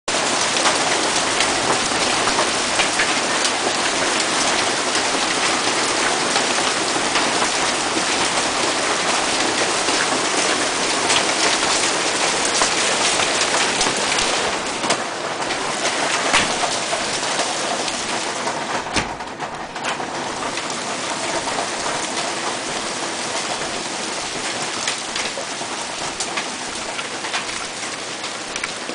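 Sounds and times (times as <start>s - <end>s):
hail pelting the ground: 0.1s - 28.9s.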